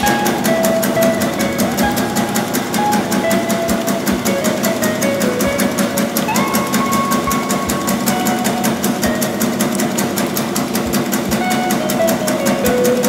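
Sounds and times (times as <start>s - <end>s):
machine mechanical clatter: 0.0s - 13.0s.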